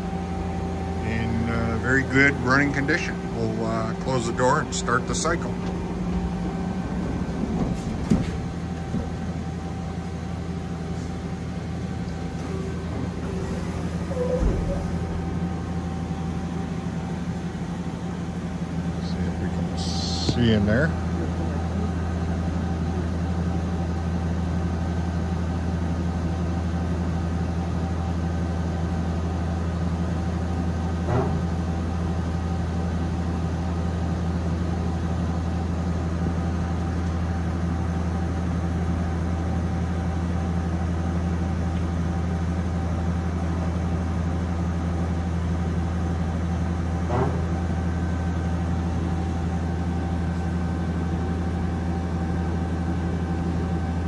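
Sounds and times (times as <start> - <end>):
machine hum with high whine: 0.0 - 54.0.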